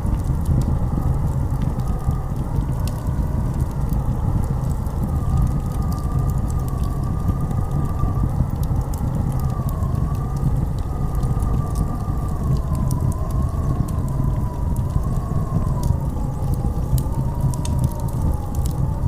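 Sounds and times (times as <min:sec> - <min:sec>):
blizzard wind howling: 0:00.0 - 0:19.0.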